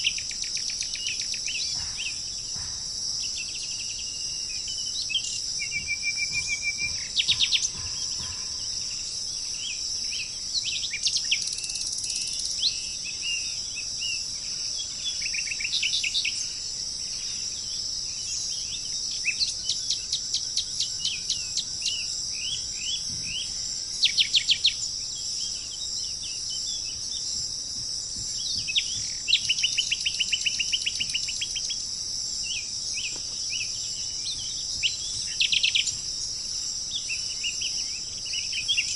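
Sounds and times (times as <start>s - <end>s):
birds calling and chirping: 0.0s - 38.9s
high-pitched insect drone: 0.0s - 38.9s.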